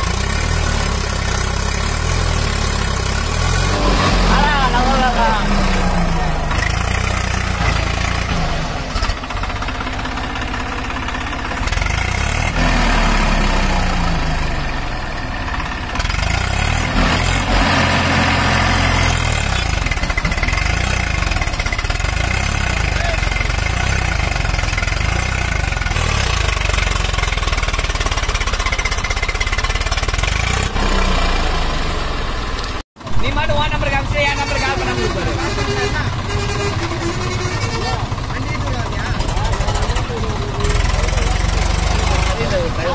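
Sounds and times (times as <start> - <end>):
tractor diesel engine revving: 0.0 - 42.9.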